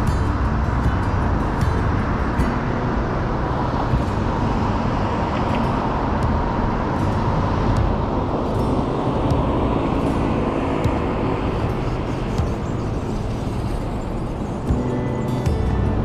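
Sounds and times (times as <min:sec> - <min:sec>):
city road traffic: 0:00.0 - 0:16.0
truck passing: 0:00.0 - 0:16.0.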